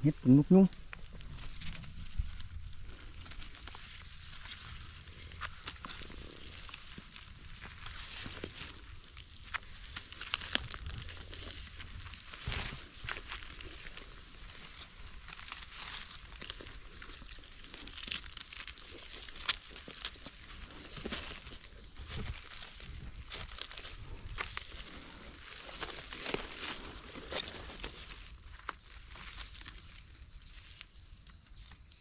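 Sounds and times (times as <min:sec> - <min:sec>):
leaves rustling and crackling: 0:00.0 - 0:32.0.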